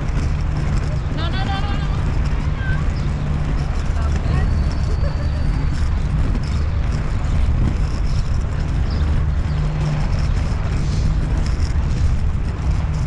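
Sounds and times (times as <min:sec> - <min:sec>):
inline skate wheels rolling on paving: 0:00.0 - 0:13.0.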